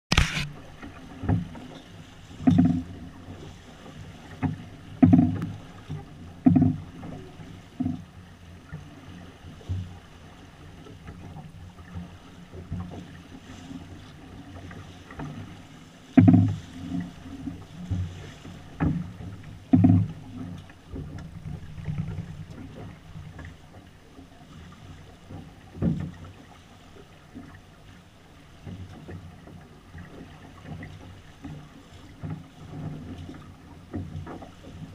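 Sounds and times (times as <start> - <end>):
water rushing along hull: 0.1 - 34.9
waves slapping against hull: 0.1 - 34.9.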